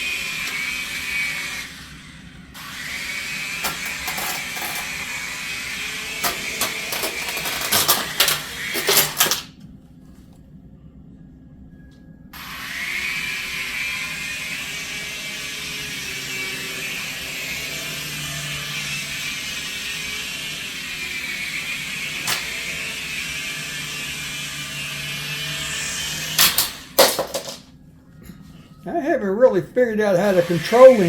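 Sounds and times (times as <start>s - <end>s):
toy helicopter motor whining: 0.0s - 9.5s, 12.4s - 27.6s, 30.1s - 31.0s.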